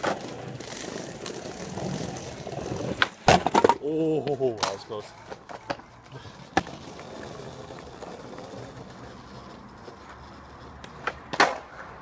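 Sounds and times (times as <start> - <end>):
skateboard clacking on ground: 0.0 - 12.0
skateboard wheels rolling on paving: 0.0 - 12.0.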